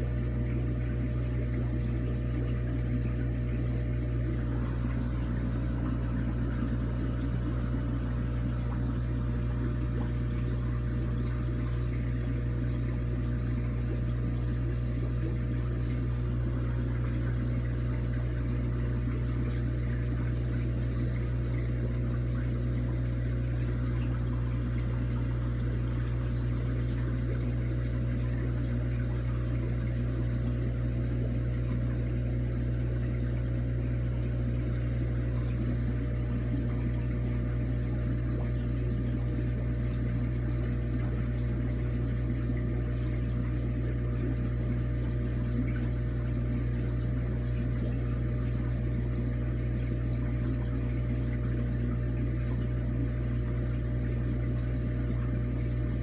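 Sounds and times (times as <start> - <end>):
aquarium pumps humming: 0.0 - 56.0.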